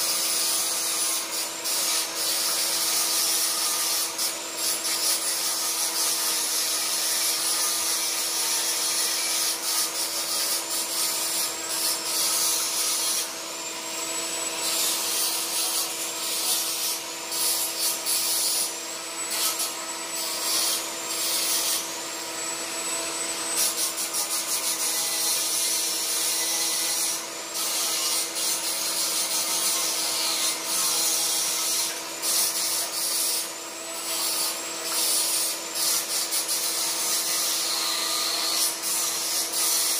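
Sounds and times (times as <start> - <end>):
electric arc welding crackle: 0.0 - 13.4, 14.7 - 18.7, 19.3 - 21.9, 23.6 - 39.9.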